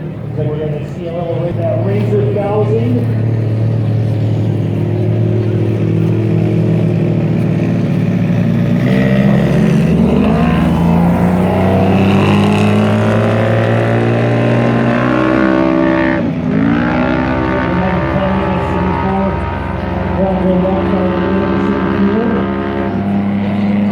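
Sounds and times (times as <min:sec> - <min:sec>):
engine revving under throttle: 0:00.8 - 0:23.9.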